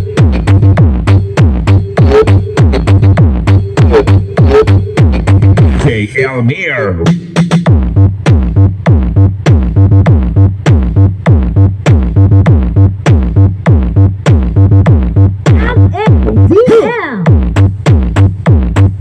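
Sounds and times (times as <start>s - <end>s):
electronic dance music: 0.0s - 19.0s.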